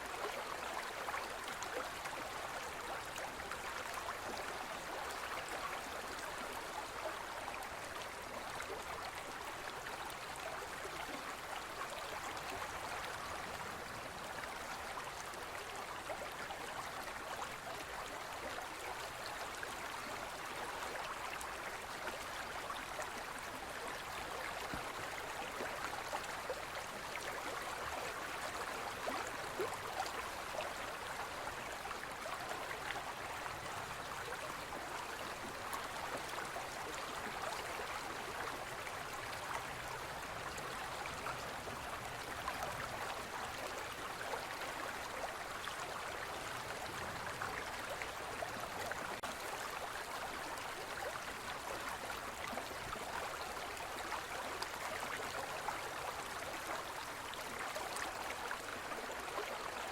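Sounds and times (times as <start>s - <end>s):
stream babbling over rocks: 0.1s - 59.9s.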